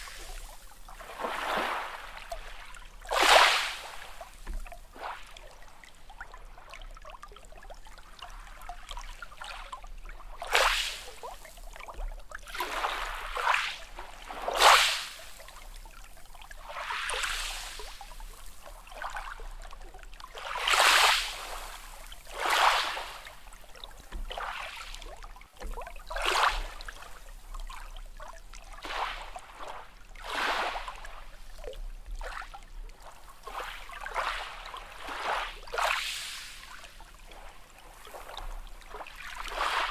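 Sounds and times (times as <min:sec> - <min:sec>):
small sea waves lapping: 0:00.0 - 0:39.9.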